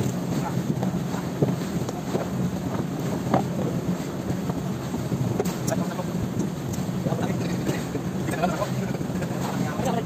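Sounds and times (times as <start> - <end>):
boat engine humming: 0.0 - 10.0
wind on microphone: 0.0 - 10.0.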